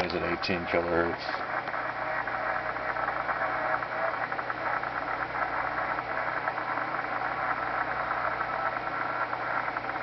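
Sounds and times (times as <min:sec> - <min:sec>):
radio band noise hiss: 0:00.0 - 0:10.0
static clicks: 0:00.0 - 0:10.0.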